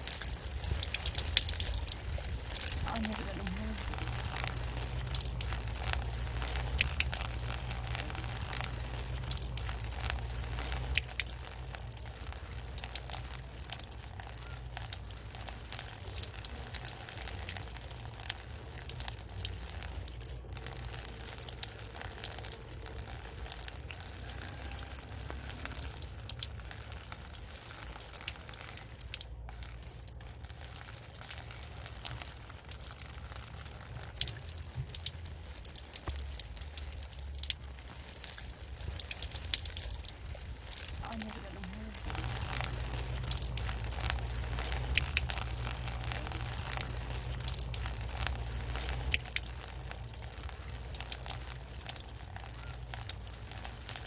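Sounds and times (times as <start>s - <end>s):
low rumble: 0.0s - 27.6s, 31.4s - 51.8s
steady rain falling: 0.0s - 54.0s.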